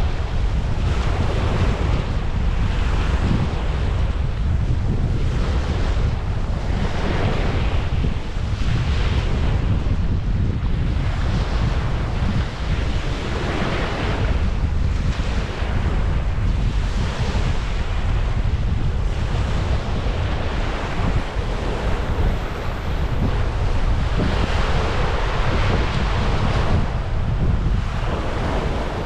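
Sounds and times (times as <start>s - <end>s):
surf washing onto beach: 0.0s - 29.0s
wind buffeting microphone: 0.0s - 29.0s.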